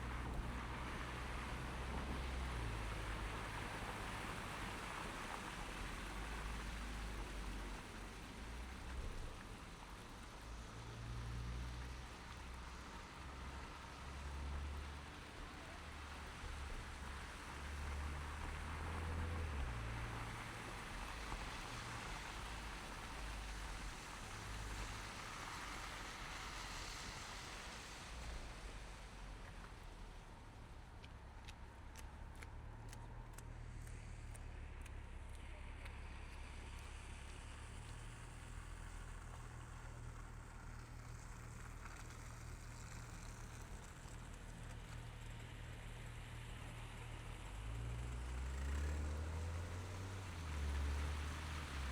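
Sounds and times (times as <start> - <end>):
low engine hum: 0.0 - 51.9
tyre and road noise hiss: 0.0 - 51.9.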